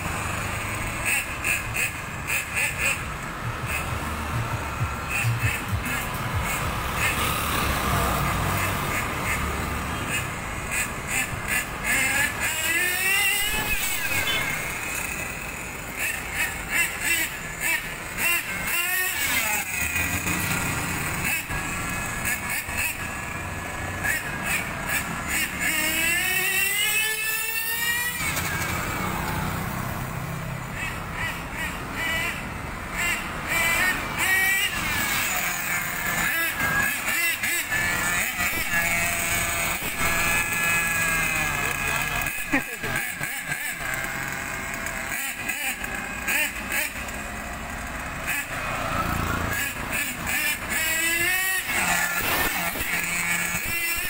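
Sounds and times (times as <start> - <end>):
model car motor whining: 0.0 - 54.0
street traffic: 0.0 - 54.0.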